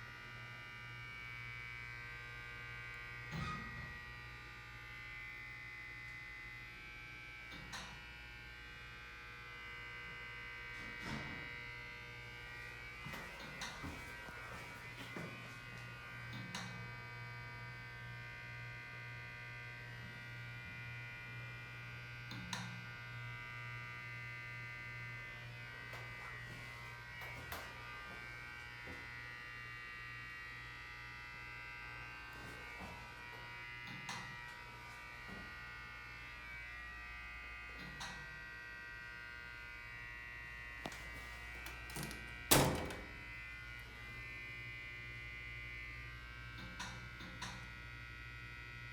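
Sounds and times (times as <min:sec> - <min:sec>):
elevator electrical buzz: 0:00.0 - 0:48.9.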